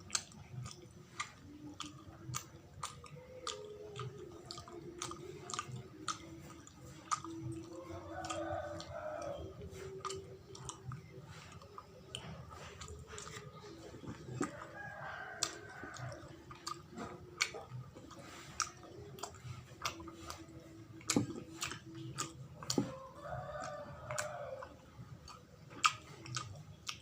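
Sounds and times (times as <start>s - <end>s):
person chewing sticky sweet: 0.0s - 27.0s.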